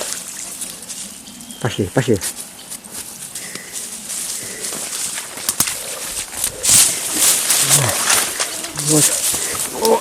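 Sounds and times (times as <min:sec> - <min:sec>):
footsteps on forest floor: 0:00.0 - 0:10.0.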